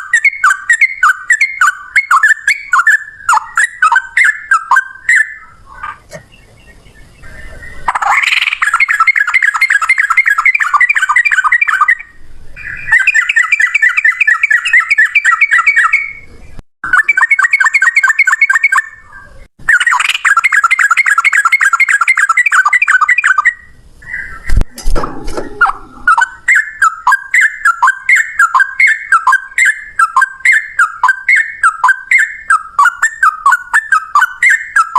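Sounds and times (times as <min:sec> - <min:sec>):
bird singing rolling trills: 0:00.0 - 0:34.9.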